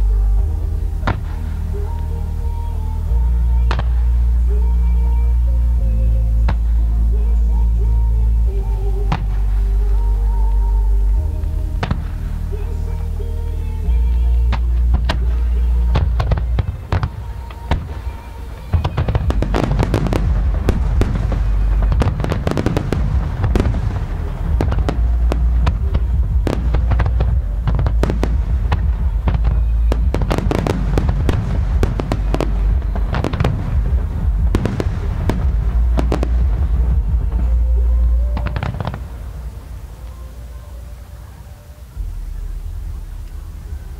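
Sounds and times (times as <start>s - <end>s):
deep fireworks booms: 0.0s - 41.3s
music playing: 0.0s - 43.9s
fireworks bangs and crackling: 0.2s - 7.1s, 7.8s - 41.9s.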